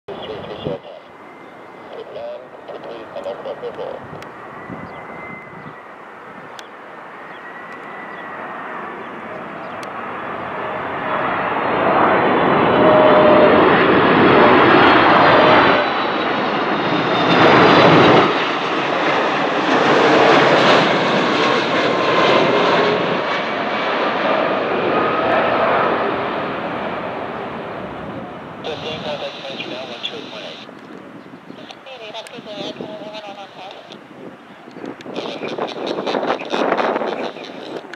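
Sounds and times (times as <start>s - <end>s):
high engine whine: 0.1s - 37.9s
jet engines rumbling: 0.1s - 37.9s.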